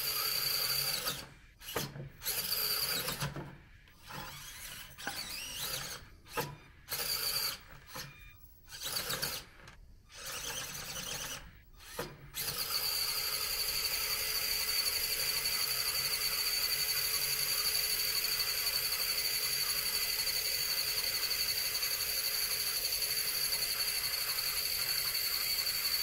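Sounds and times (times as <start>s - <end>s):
small electric motor whine: 0.0s - 3.3s, 4.0s - 26.0s.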